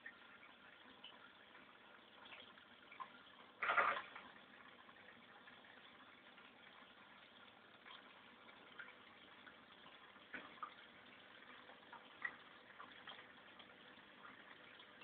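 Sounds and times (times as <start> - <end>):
aquarium water trickling: 0.0 - 15.0
small water plinks: 0.0 - 15.0.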